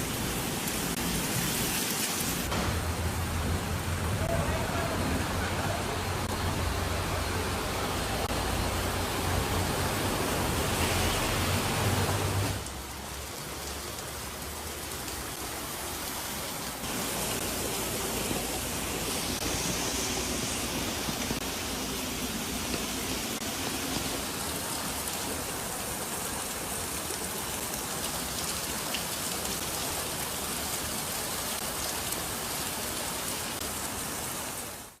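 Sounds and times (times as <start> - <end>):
heavy rain: 0.0 - 35.0
running water: 0.0 - 35.0.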